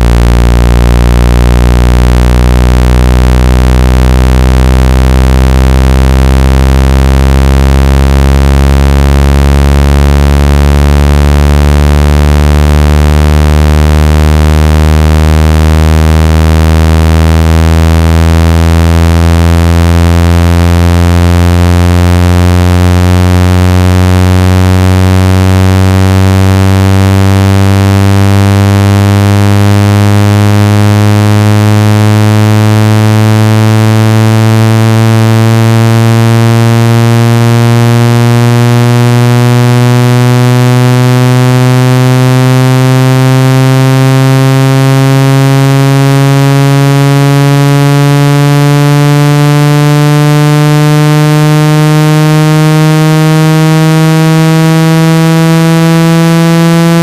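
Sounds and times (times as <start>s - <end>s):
buzzy synthesized rising tone: 0.0s - 57.0s.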